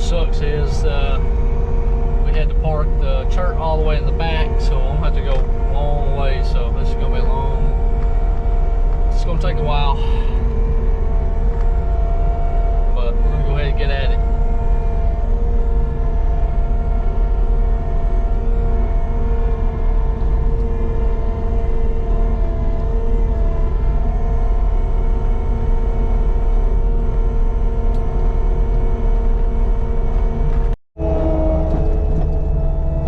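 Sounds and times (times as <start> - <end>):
deep engine drone with whine: 0.0 - 33.0.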